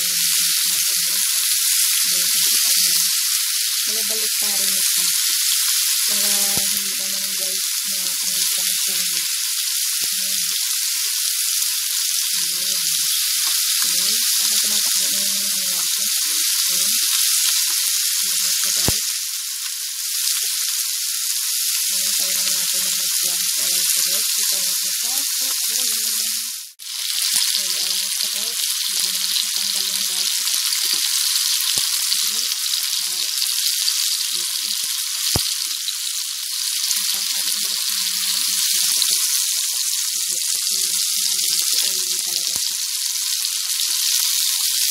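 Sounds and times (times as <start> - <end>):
chicken sizzling in hot oil: 0.0 - 44.9.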